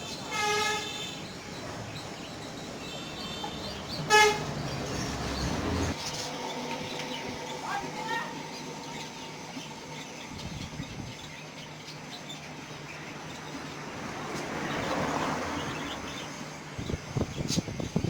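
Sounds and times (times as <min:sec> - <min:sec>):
small birds chirping: 0:00.0 - 0:18.0
traffic rumble: 0:00.0 - 0:18.0.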